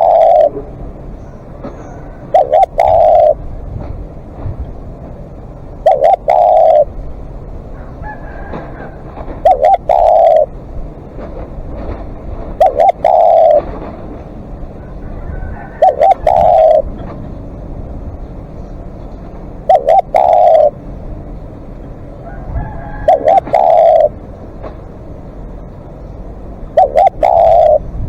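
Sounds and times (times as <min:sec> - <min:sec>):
dove cooing: 0:00.0 - 0:03.9, 0:05.6 - 0:24.4, 0:26.6 - 0:28.0.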